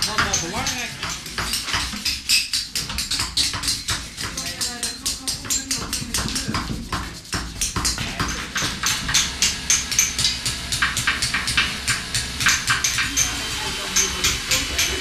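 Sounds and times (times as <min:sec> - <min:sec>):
hammers striking chisels on stone: 0:00.0 - 0:15.0.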